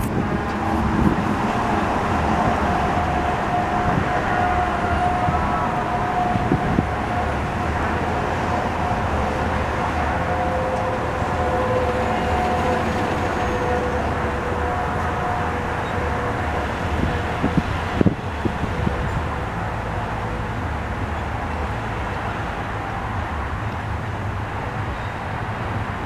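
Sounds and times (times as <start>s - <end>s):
heavy trucks driving past: 0.0s - 26.0s
long steady tones changing pitch: 0.0s - 26.0s.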